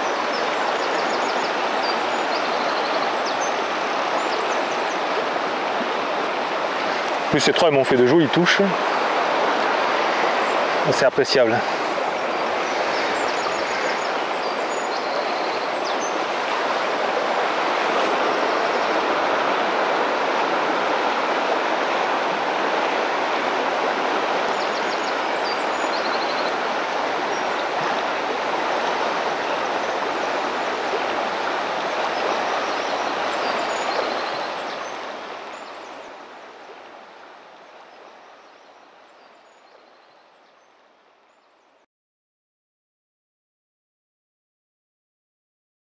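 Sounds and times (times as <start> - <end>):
fast river current rushing: 0.0 - 41.7.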